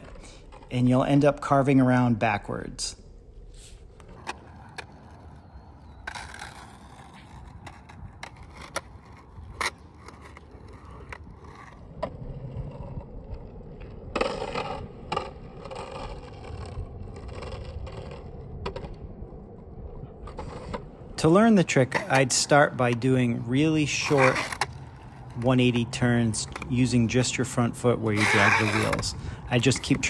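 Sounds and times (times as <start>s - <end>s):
skateboard wheels scraping on court: 0.0s - 30.0s.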